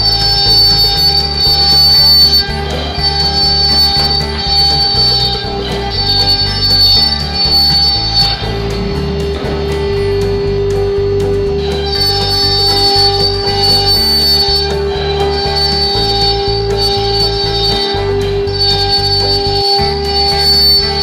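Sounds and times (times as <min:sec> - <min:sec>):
instrumental background music: 0:00.0 - 0:21.0.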